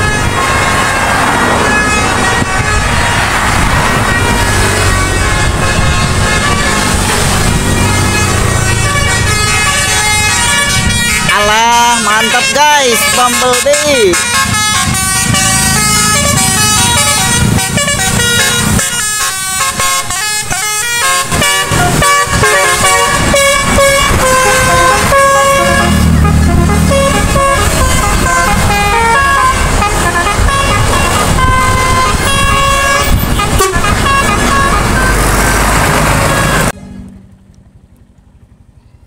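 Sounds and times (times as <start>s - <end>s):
bus musical air horn: 0.0s - 36.8s
bus engines rumbling: 0.0s - 39.0s
motorcycles passing: 0.0s - 39.0s.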